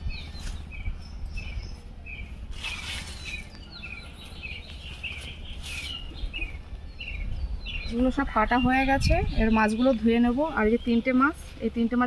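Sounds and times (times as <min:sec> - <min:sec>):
wind rumble on microphone: 0:00.0 - 0:11.7
small birds chirping: 0:00.0 - 0:12.0.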